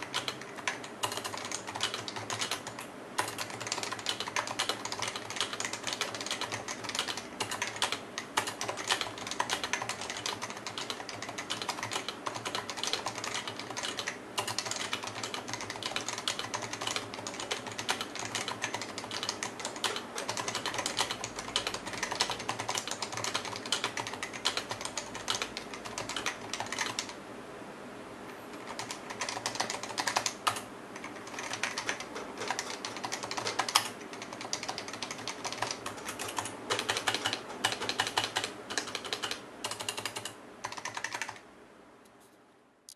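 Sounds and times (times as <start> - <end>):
fast typing on keyboard: 0.0 - 27.2, 28.5 - 41.4.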